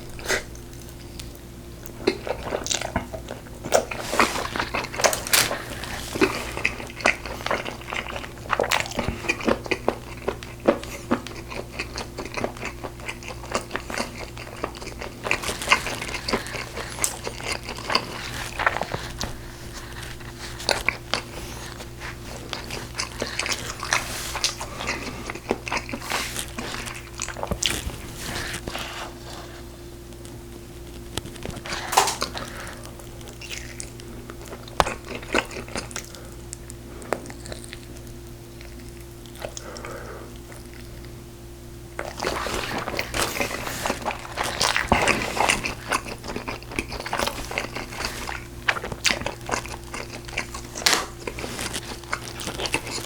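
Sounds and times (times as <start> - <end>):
biting and chewing: 0.0 - 29.5, 30.1 - 41.2, 42.0 - 53.0
wet clicks and crunches: 2.1 - 28.7, 30.1 - 36.8, 42.0 - 53.0.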